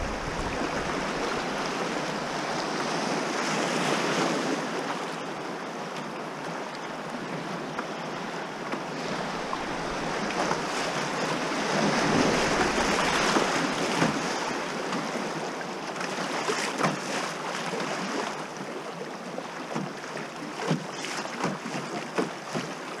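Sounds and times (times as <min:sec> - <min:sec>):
river current rushing and splashing: 0:00.0 - 0:23.0.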